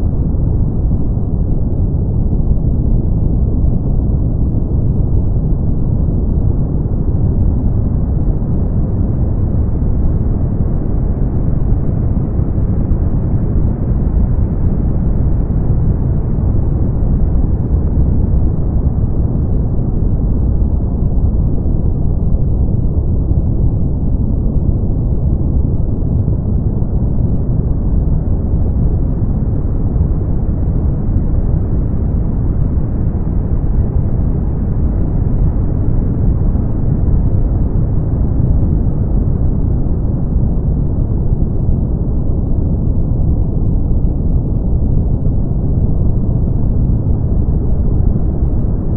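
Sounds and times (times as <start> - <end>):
brown noise: 0.0 - 48.9.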